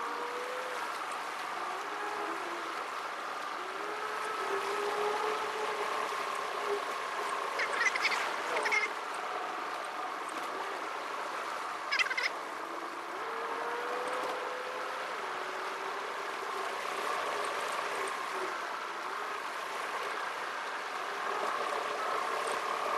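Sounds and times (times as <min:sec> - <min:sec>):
car engine hum in cabin: 0:00.0 - 0:22.9.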